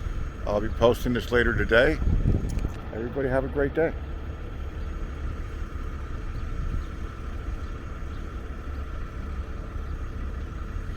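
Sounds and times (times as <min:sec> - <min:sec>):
wind buffeting microphone: 0:00.0 - 0:03.2, 0:03.9 - 0:10.9
faint steady hum: 0:00.0 - 0:10.9.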